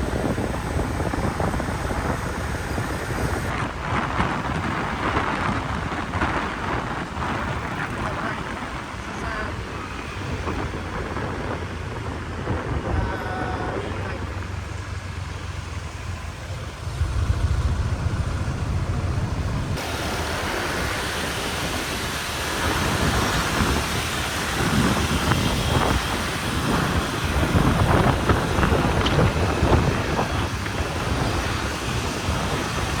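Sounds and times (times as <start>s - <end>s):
low rumble like street traffic: 0.0s - 33.0s.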